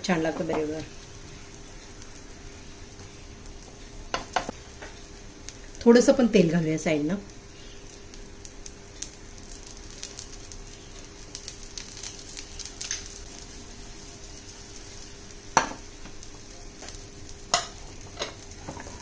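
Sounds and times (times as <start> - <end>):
omelette sizzling in a pan: 0.0 - 19.0.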